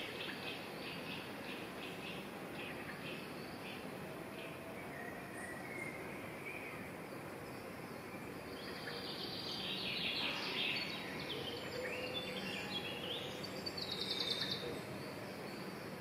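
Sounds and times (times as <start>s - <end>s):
background hiss: 0.0s - 16.0s
songbirds singing: 0.0s - 16.0s.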